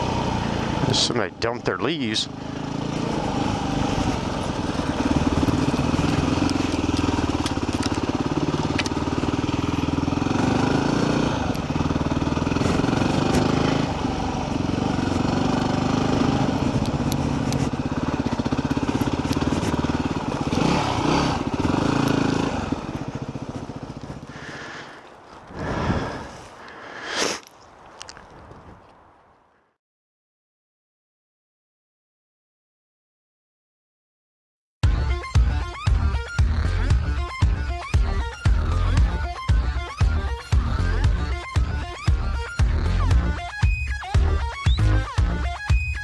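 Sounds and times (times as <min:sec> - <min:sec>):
motorcycle engine running: 0:00.0 - 0:26.4, 0:34.8 - 0:46.0.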